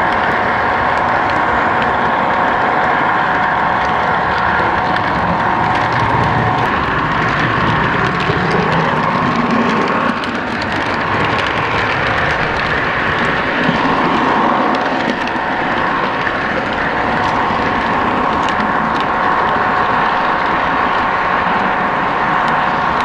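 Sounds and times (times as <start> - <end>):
clicks over rail joints: 0.0 - 23.0
constant hum: 0.0 - 23.0
model train wheels rattling on track: 0.0 - 23.0.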